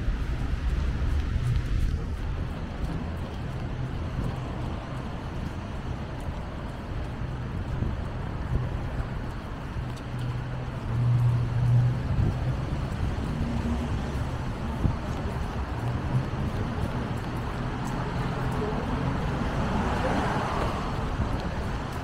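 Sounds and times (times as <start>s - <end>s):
traffic engine hum: 0.0s - 22.0s.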